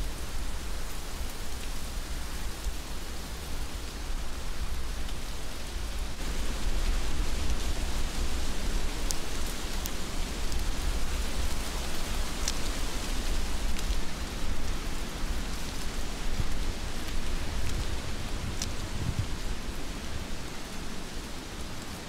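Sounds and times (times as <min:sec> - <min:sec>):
heavy rain falling: 0:00.0 - 0:22.0
raindrops ticking close by: 0:00.2 - 0:22.0.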